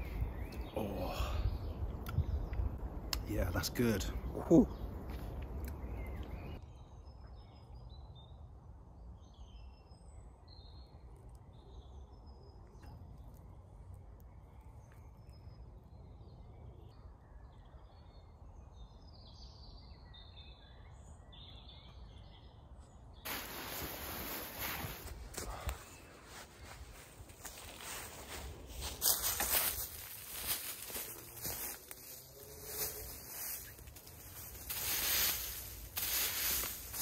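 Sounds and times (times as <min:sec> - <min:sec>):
birds chirping and trilling: 0:00.0 - 0:37.0.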